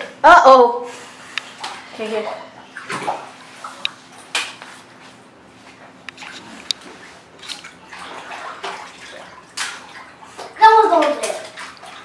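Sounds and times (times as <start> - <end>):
bathtub water splashing: 0.0 - 12.0.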